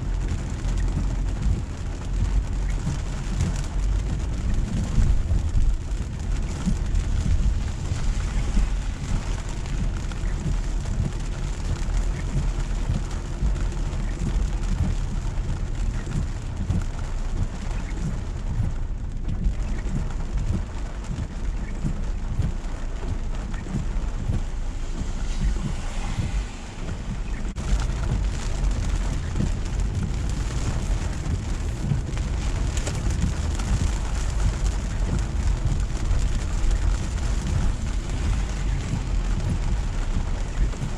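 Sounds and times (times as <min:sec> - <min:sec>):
car low rumble: 0:00.0 - 0:40.9
rain on a car: 0:00.0 - 0:40.9
tyres on wet road: 0:00.0 - 0:40.9.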